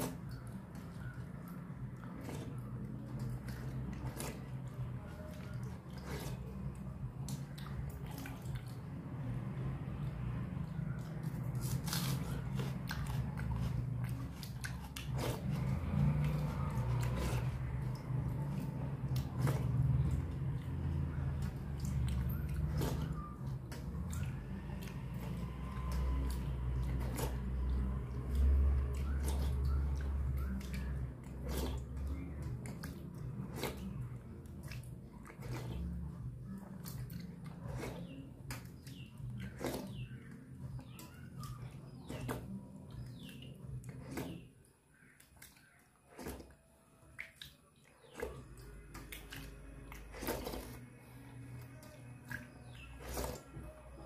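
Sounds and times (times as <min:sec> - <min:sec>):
hand squishing wet rice: 0:00.0 - 0:54.0.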